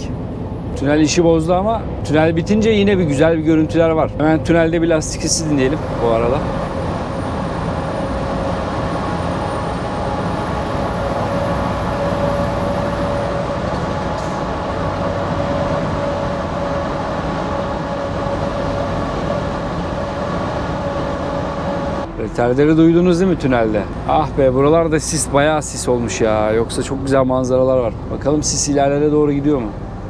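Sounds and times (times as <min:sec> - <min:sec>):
truck roaring through tunnel: 0:00.0 - 0:30.0.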